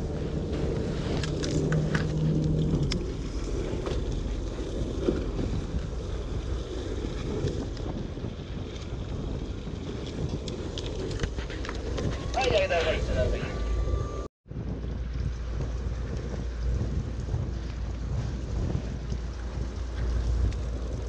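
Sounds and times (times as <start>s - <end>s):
boat engine rumble: 0.0s - 21.0s
low hum: 0.0s - 21.0s
water washing along hull: 0.0s - 21.0s
wind on microphone: 0.0s - 21.0s.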